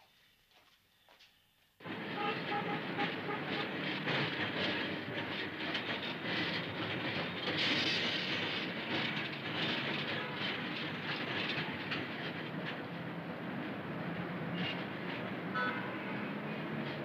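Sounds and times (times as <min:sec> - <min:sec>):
tram wheels rattling on rails: 0:01.8 - 0:17.0.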